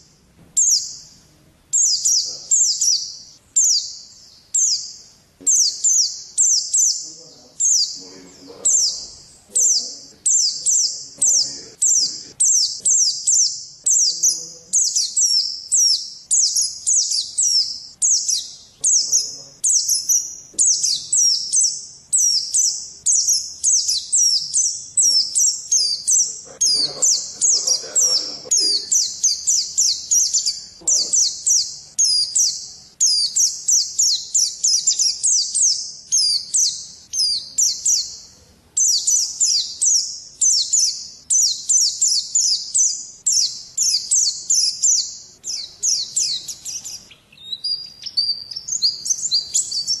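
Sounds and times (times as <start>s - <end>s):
songbird high chirping: 0.0s - 50.0s.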